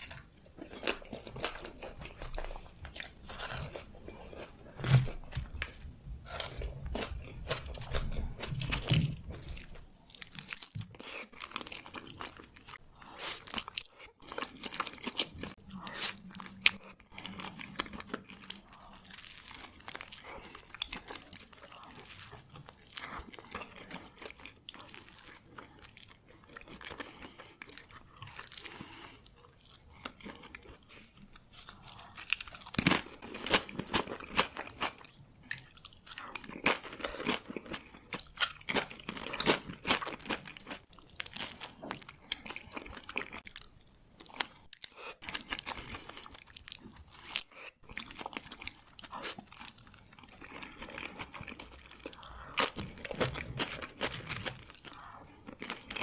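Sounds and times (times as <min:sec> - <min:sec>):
quiet chewing: 0:00.0 - 0:56.0.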